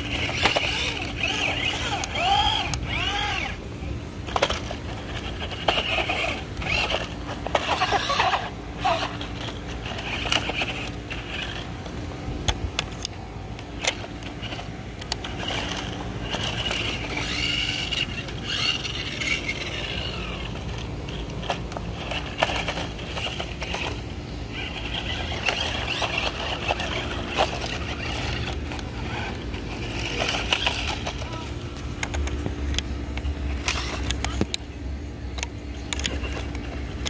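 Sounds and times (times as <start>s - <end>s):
electric motor whining: 0.0s - 34.7s.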